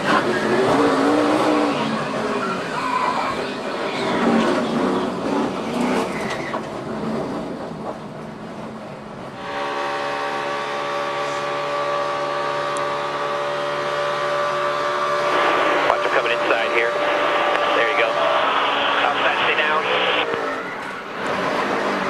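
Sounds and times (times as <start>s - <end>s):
race car engine at full throttle: 0.0s - 8.0s, 9.3s - 22.0s.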